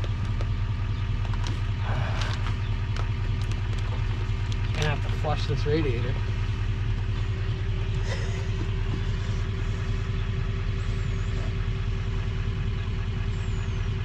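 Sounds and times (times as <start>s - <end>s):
machine engine idling: 0.0s - 14.0s.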